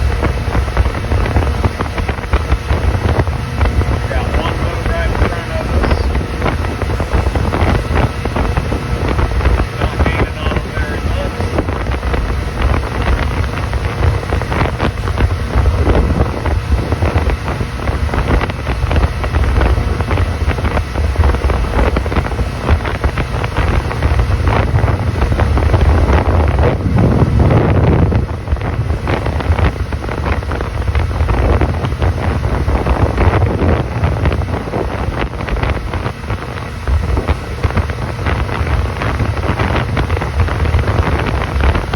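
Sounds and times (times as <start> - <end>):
motorboat engine: 0.0 - 41.9
wind buffeting microphone: 0.0 - 41.9.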